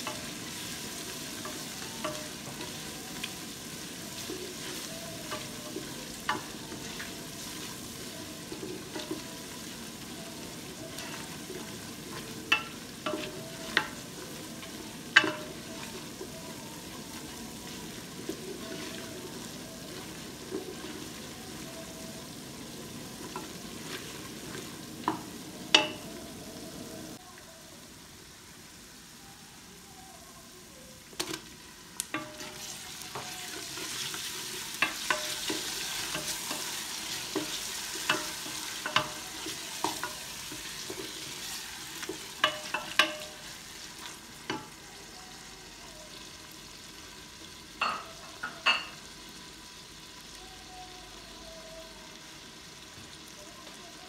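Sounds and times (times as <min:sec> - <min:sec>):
masala sizzling in a pot: 0:00.0 - 0:54.0.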